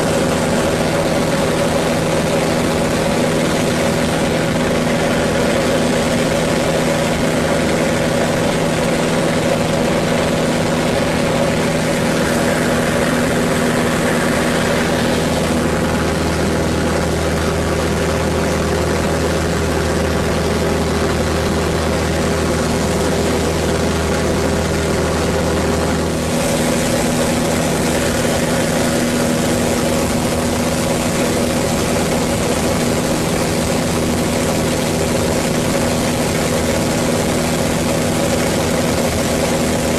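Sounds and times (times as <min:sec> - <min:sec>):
deeper drone: 0:00.0 - 0:39.9
propeller plane engine: 0:00.0 - 0:39.9.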